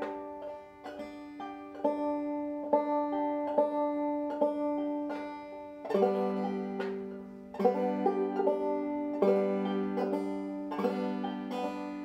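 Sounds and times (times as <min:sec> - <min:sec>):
banjo played clawhammer style: 0:00.0 - 0:12.0.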